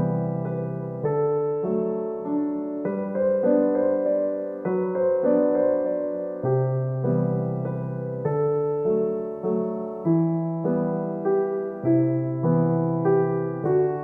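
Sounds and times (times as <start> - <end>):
gentle solo piano piece: 0.0 - 14.0.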